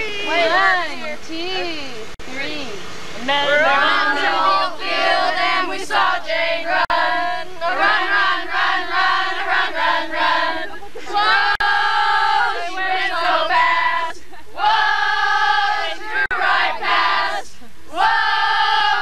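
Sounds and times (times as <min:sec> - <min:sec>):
women singing and shouting a cheer: 0:00.0 - 0:02.0, 0:03.3 - 0:19.0.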